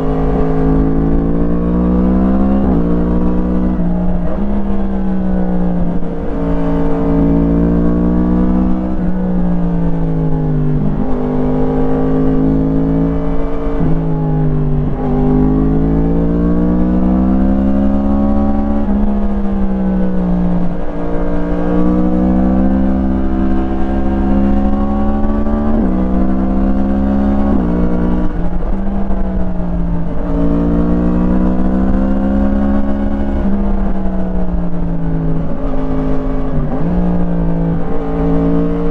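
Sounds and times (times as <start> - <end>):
motorcycle engine revving: 0.0 - 38.9
wind and road noise rumble: 0.0 - 38.9.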